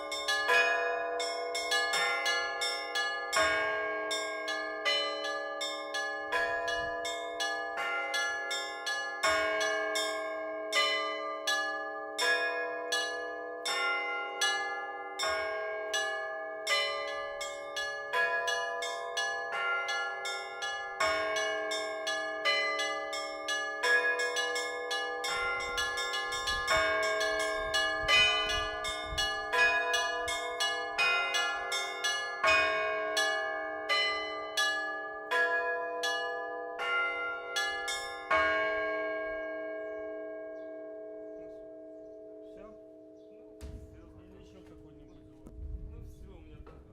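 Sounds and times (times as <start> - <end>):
church bells pealing: 0.0 - 46.9.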